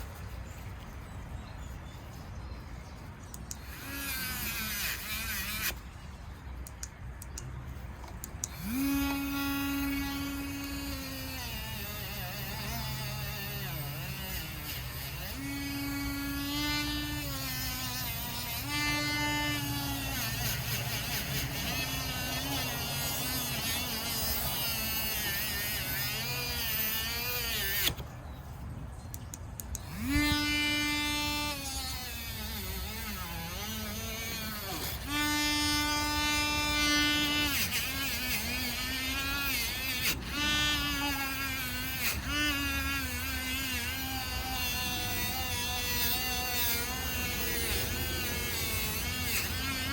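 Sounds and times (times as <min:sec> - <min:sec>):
electric power tool whining: 0:03.3 - 0:05.9, 0:08.0 - 0:28.1, 0:29.6 - 0:49.9.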